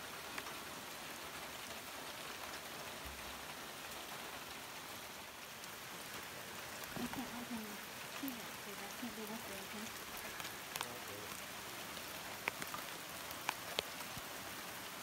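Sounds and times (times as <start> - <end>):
raindrop ticks: 0.0 - 0.7, 1.4 - 15.0
rain falling steadily: 0.0 - 15.0.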